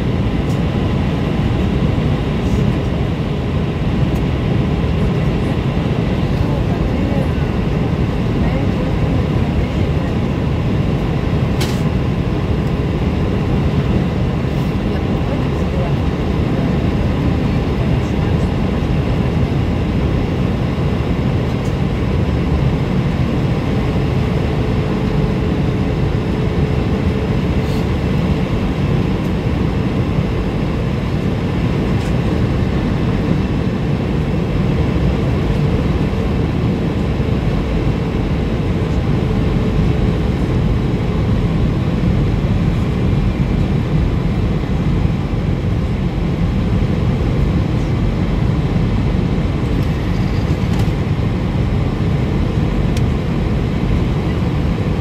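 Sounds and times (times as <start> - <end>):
faint steady whine: 0.0 - 55.0
jet engines humming: 0.0 - 55.0.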